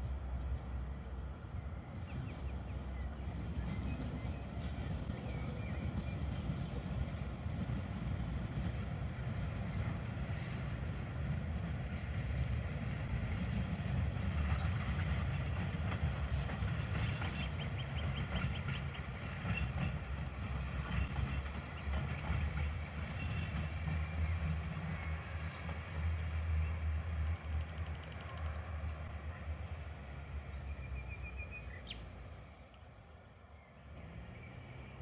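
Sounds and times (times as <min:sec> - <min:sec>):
tram wheels rumbling on rails: 0:00.0 - 0:35.0.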